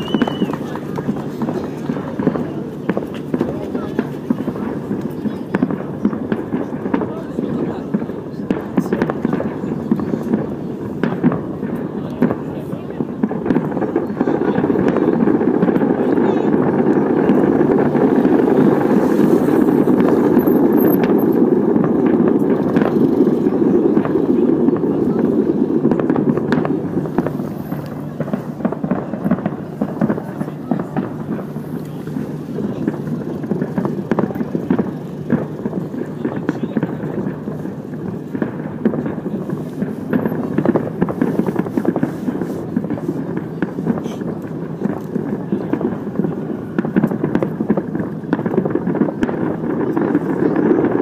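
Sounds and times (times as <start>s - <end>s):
distant fireworks rumble: 0.0s - 51.0s
faint fireworks cracks: 0.0s - 51.0s.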